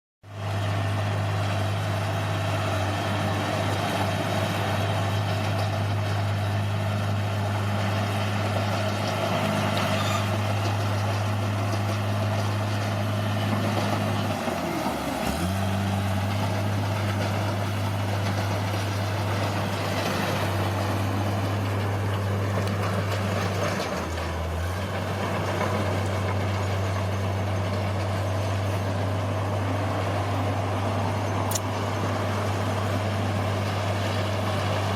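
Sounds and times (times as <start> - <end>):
heavy machinery diesel engine: 0.2 - 34.9.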